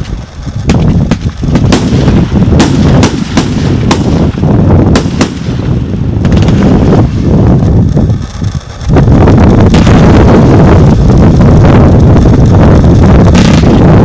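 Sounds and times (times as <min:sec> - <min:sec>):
firework sharp cracks: 0:00.0 - 0:14.0
rumble of firework launches: 0:00.0 - 0:14.0.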